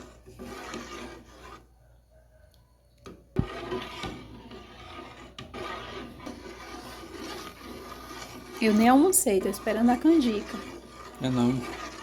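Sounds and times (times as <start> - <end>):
spoon scraping a pot: 0.0 - 1.8, 3.1 - 12.0.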